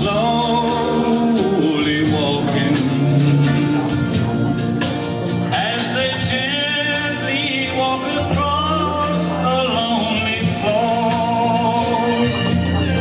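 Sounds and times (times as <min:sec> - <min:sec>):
country song: 0:00.0 - 0:13.0.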